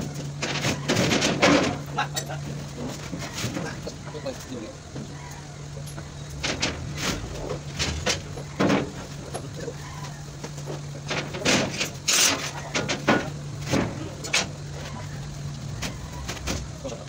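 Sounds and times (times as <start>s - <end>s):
sharp knocks and clanks: 0.0s - 4.2s, 4.9s - 15.1s
steady low hum: 0.0s - 17.0s.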